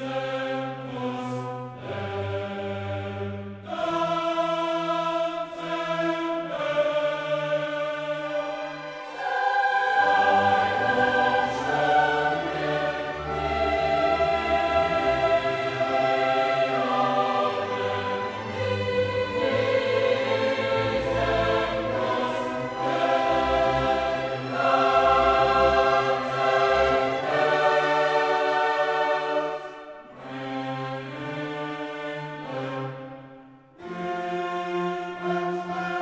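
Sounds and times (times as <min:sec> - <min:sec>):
choral and orchestral chords: 0:00.0 - 0:36.0.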